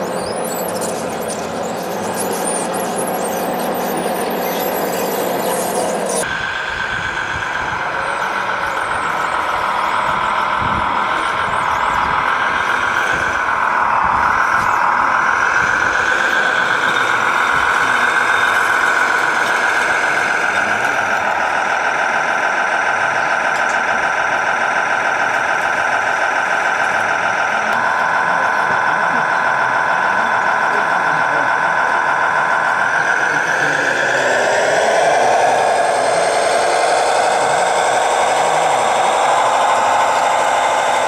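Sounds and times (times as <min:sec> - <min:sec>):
small electric motors whining: 0:00.0 - 0:21.7, 0:26.8 - 0:41.0.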